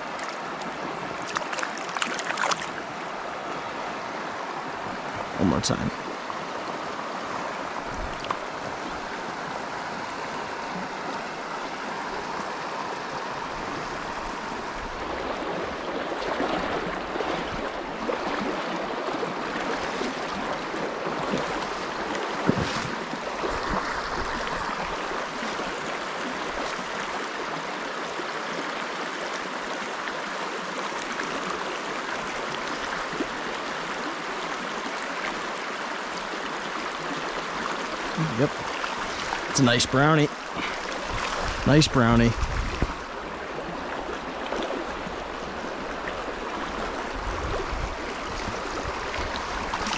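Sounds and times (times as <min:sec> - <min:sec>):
river water over stones: 0:00.0 - 0:49.9.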